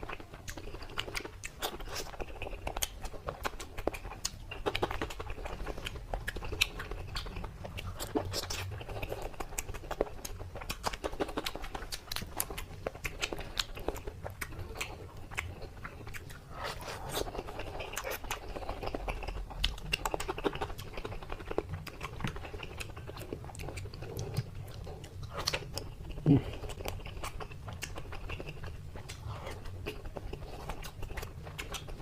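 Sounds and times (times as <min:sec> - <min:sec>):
crunchy chewing: 0:00.0 - 0:32.0.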